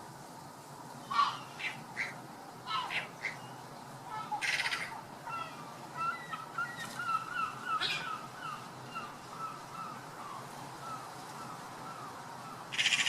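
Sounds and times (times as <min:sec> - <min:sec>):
bird calling in curved notes: 0:01.0 - 0:13.0.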